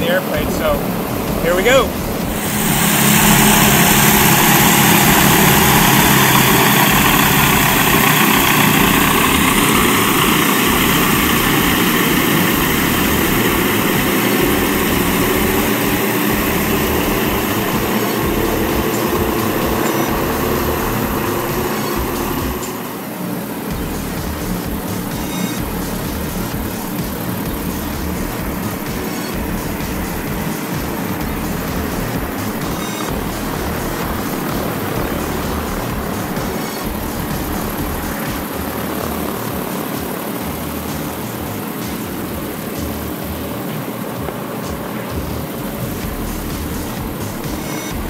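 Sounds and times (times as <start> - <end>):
aircraft engines droning: 0.0 - 48.0.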